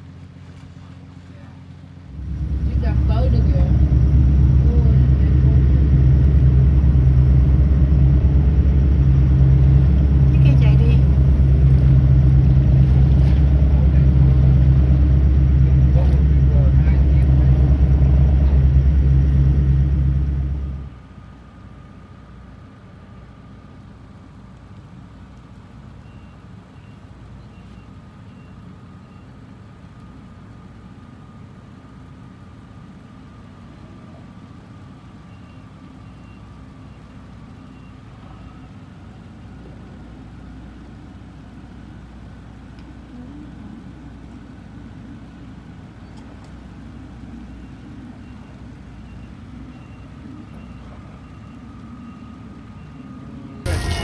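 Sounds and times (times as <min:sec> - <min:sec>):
faint low engine drone: 0:00.0 - 0:54.0
loud boat engine rumble: 0:00.0 - 0:54.0.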